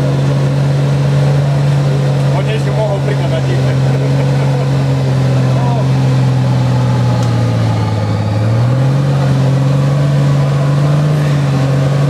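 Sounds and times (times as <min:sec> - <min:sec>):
engine running hard under load: 0:00.0 - 0:12.0.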